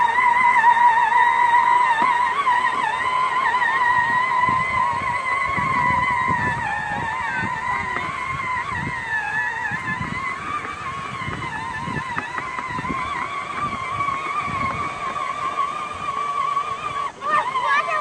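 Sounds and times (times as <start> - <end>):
electric motors whining: 0.0 - 18.0
plastic wheels rolling over grass: 0.0 - 18.0.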